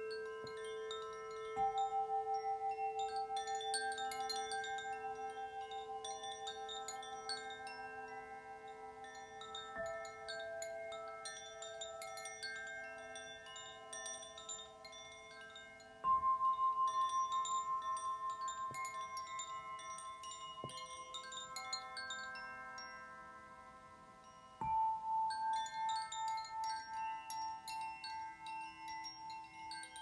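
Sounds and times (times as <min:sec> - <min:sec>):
high chime tinkles: 0:00.0 - 0:30.0.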